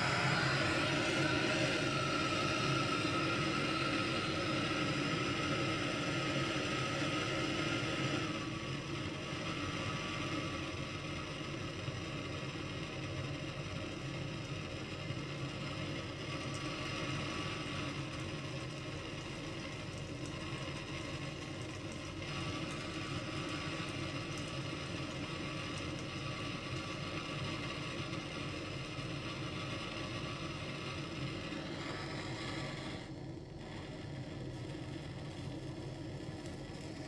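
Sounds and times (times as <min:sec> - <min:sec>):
gas torch flame hissing: 0:00.0 - 0:37.0.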